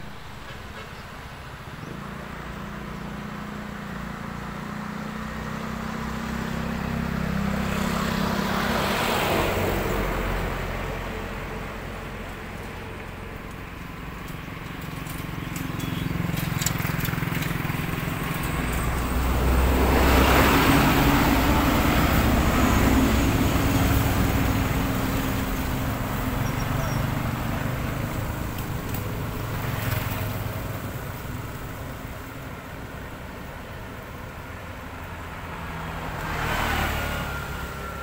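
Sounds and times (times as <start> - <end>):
vehicle passing with tyre noise: 0.0 - 38.0.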